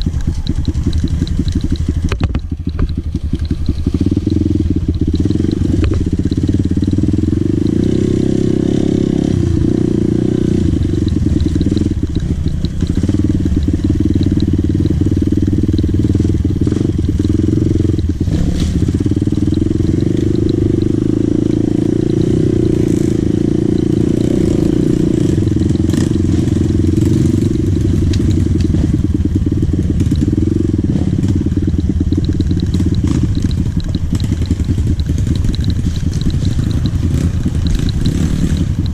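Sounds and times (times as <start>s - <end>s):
knocks and rattles: 0.0s - 8.0s, 9.5s - 38.9s
dirt bike engine running: 0.0s - 38.9s.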